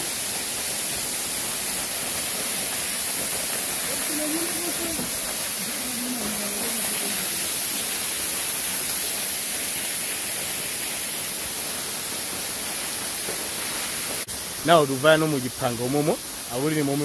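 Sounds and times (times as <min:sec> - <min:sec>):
waterfall rushing onto rocks: 0:00.0 - 0:17.0.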